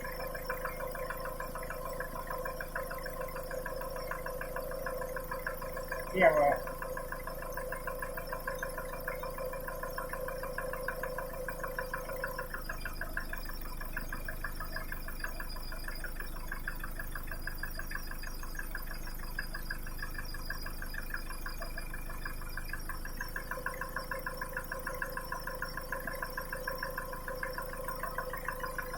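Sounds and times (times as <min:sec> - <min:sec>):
diesel engine idling with knock: 0:00.0 - 0:28.9.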